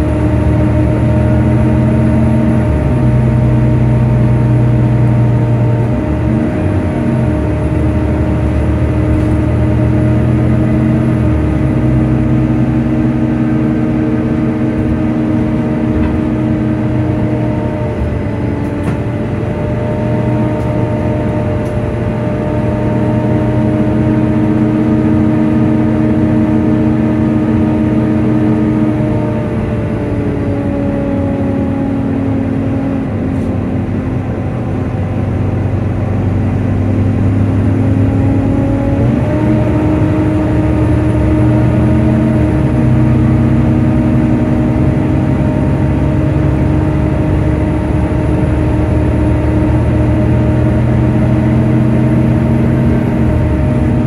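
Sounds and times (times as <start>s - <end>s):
bus engine: 0.0s - 54.0s
cooling fan whine: 0.0s - 54.0s.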